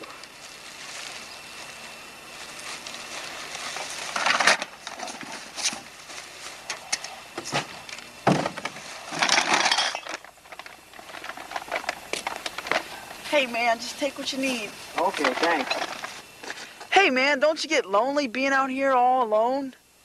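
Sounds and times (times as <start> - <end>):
plastic trash bags rustling: 0.0 - 16.8.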